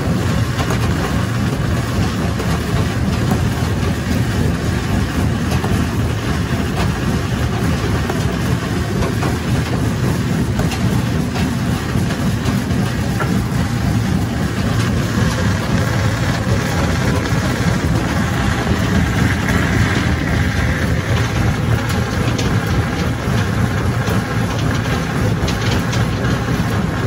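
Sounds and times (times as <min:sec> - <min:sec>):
rock crusher rumbling: 0:00.0 - 0:27.0.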